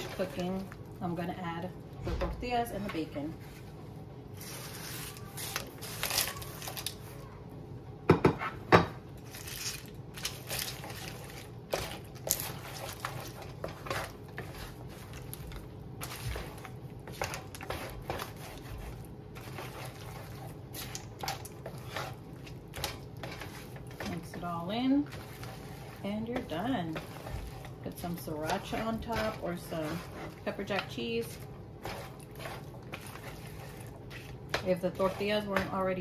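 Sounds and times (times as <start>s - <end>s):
wooden spatula scraping a pan: 0.0s - 3.8s, 4.4s - 7.2s, 10.2s - 36.0s.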